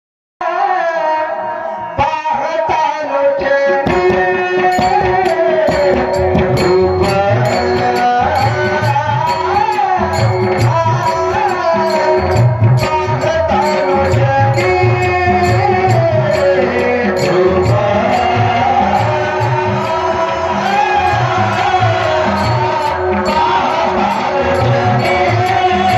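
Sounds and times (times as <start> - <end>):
person singing devotional song: 0.4 - 25.9
hand drum beat: 3.9 - 25.9.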